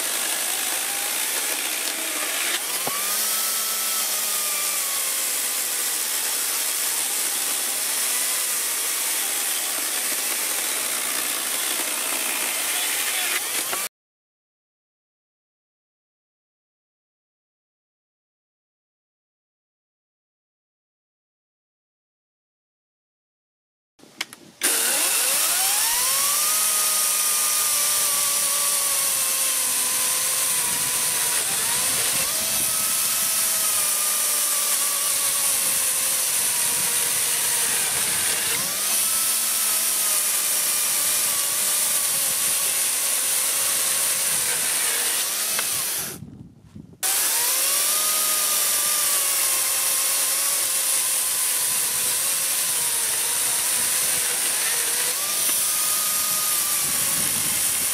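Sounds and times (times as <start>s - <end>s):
chainsaw cutting wood: 0.0s - 13.9s, 24.6s - 46.3s, 47.0s - 57.9s.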